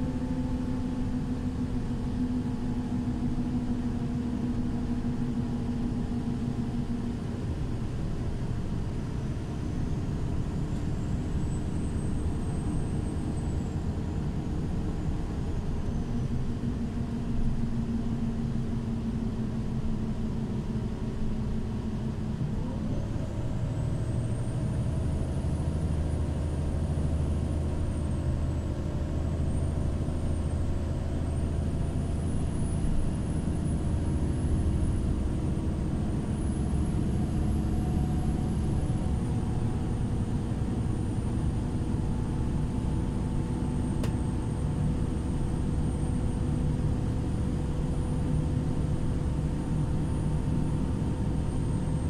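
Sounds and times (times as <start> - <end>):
bus engine rumbling: 0.0 - 52.0.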